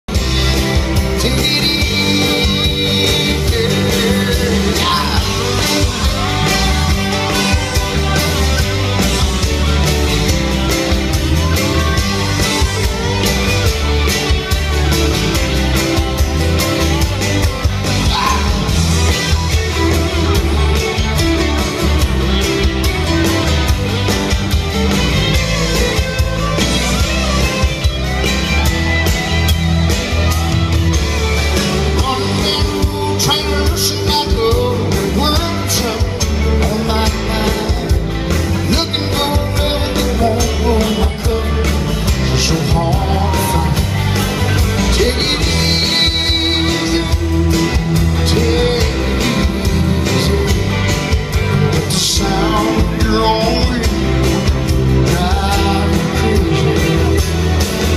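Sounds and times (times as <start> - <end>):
live band music: 0.0 - 57.9
man singing: 0.1 - 13.4, 14.0 - 23.8, 31.5 - 57.9
acoustic guitar: 0.1 - 57.9.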